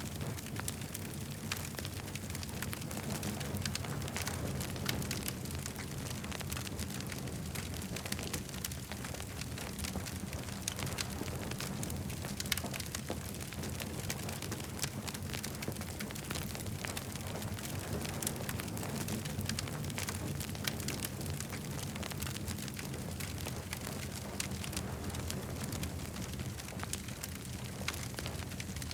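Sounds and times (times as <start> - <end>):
campfire crackling and popping: 0.0 - 28.9.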